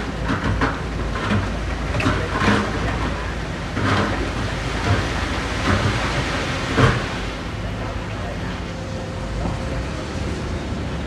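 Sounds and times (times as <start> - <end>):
diesel engine of heavy machinery: 0.0 - 11.0.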